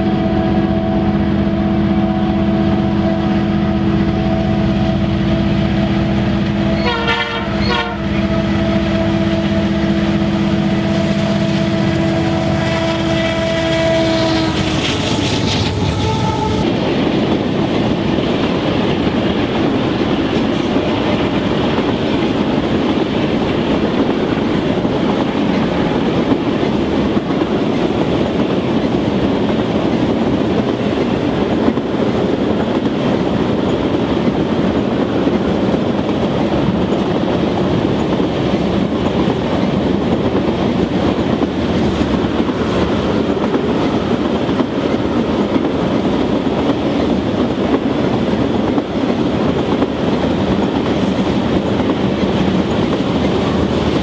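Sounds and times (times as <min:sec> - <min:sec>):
train wheels clickety-clack: 0:05.4 - 0:54.0.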